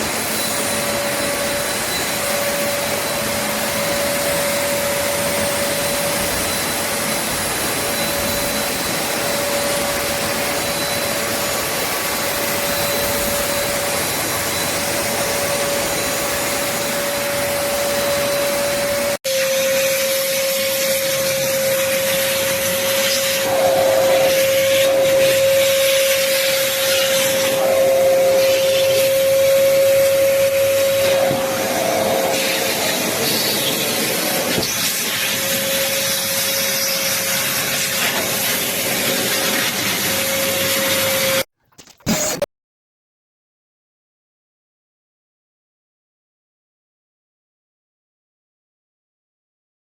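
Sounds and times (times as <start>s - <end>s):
wet dry vacuum running: 0.0s - 41.4s.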